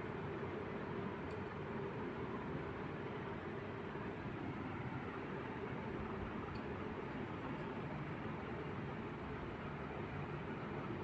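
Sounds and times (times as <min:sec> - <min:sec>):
steady hiss and hum: 0:00.0 - 0:11.0.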